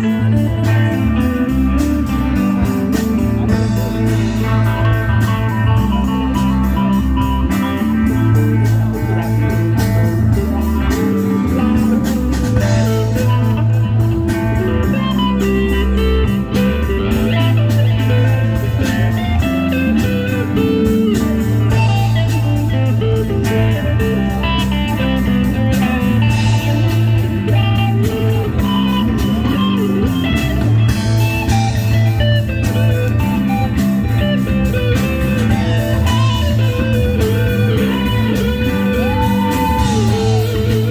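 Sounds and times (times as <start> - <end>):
electric guitar lines: 0.0 - 40.9
live rock band playing: 0.0 - 40.9.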